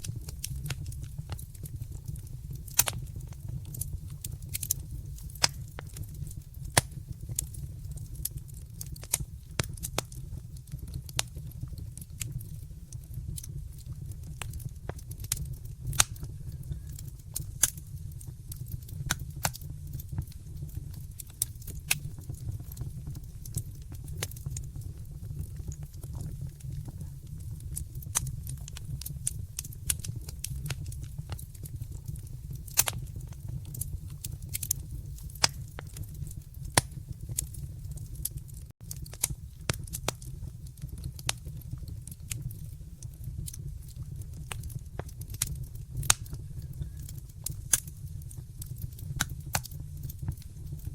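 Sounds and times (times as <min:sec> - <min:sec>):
fire crackling and popping: 0:00.0 - 0:50.9.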